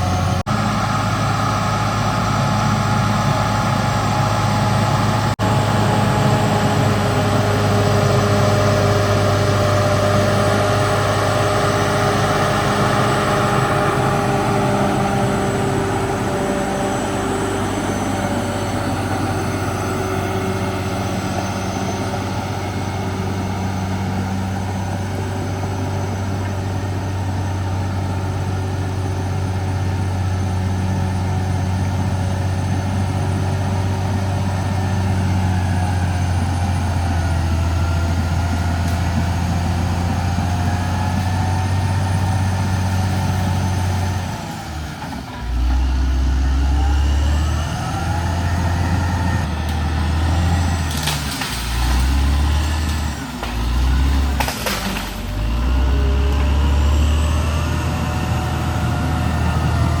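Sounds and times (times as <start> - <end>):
bulldozer diesel engine running: 0.0 - 60.0.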